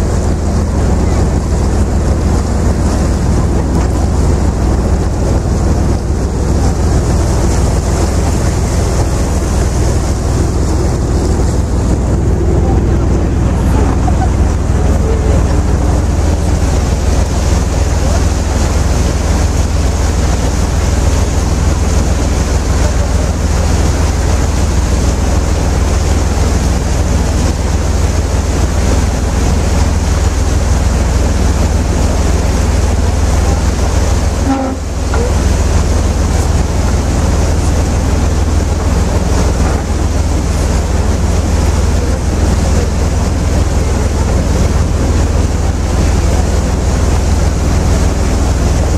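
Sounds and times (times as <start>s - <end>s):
boat engine rumble: 0.0s - 48.9s
wind on microphone: 0.0s - 48.9s.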